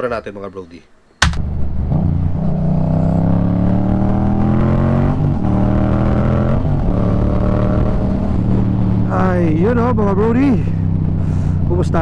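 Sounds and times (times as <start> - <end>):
motorcycle engine accelerating: 1.3 - 12.0.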